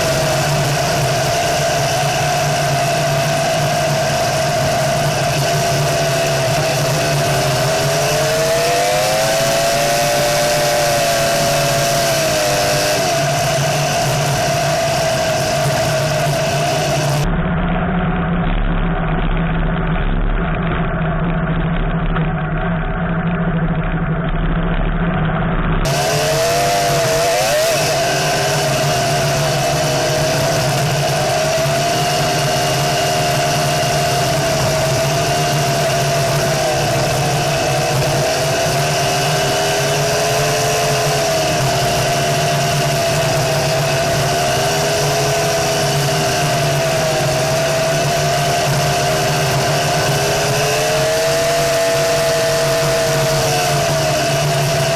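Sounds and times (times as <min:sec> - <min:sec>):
buggy engine running: 0:00.0 - 0:54.9.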